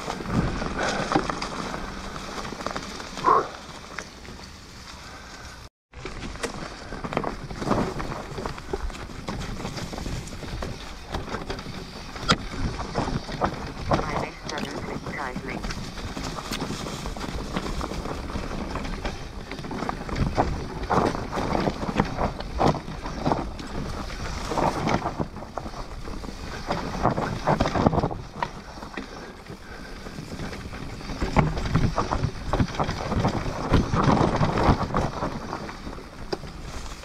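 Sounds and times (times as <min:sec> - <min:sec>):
bike rattling and knocking: 0:00.0 - 0:05.0, 0:05.9 - 0:37.0
wind rushing on microphone: 0:06.8 - 0:37.0.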